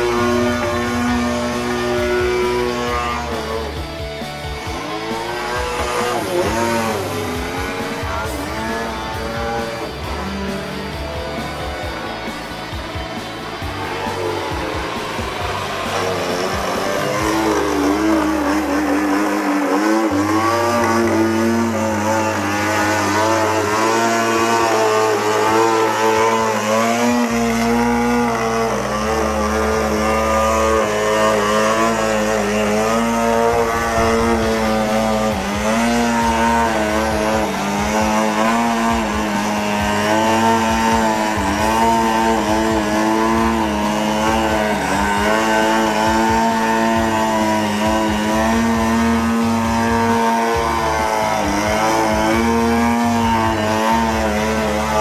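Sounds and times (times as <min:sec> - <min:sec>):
model plane engine revving: 0:00.0 - 0:55.0.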